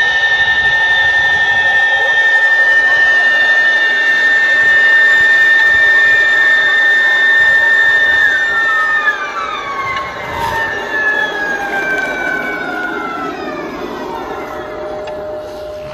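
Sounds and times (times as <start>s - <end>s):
jet engines winding down: 0.0s - 15.9s
model jet engines whining: 0.0s - 15.9s.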